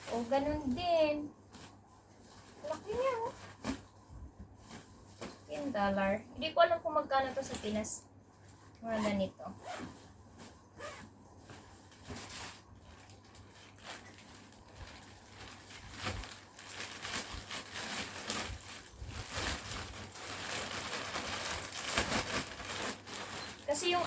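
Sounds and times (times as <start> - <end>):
bag rustling and crinkling: 0.0 - 6.2, 7.2 - 24.0.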